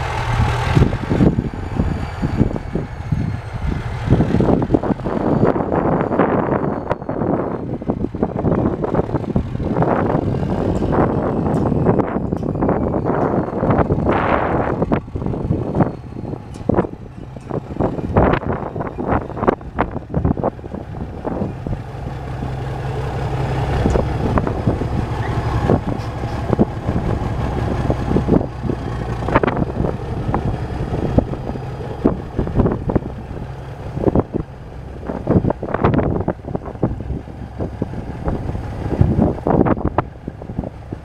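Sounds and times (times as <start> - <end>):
diesel truck idling: 0.0 - 41.0.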